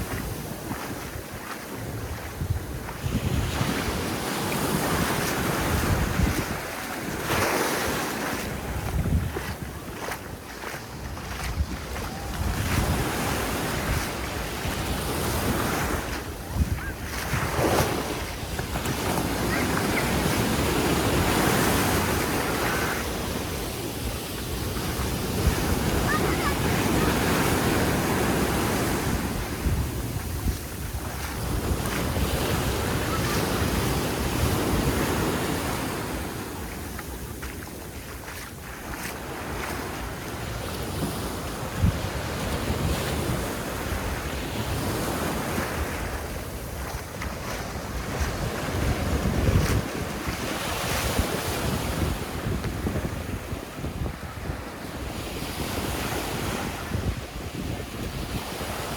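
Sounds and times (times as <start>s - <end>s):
wind buffeting microphone: 0.0s - 40.3s, 40.9s - 58.9s
waves washing onto sandy beach: 0.0s - 58.9s.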